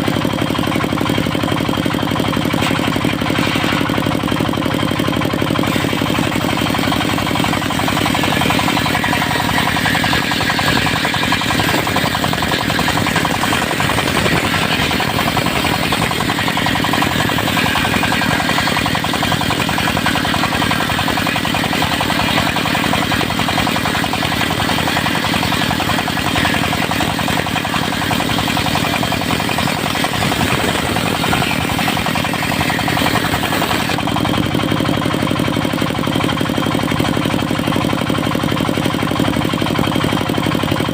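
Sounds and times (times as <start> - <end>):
saw blade cutting log: 0.0 - 40.2
diesel engine drone: 0.0 - 40.9.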